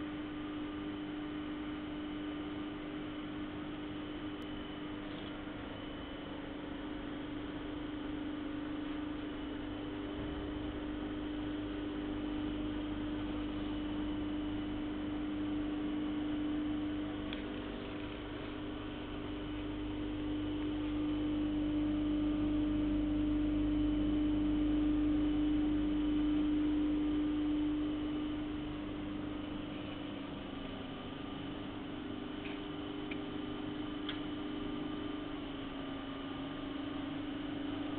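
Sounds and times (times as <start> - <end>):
heat tunnel motor hum: 0.0 - 37.9.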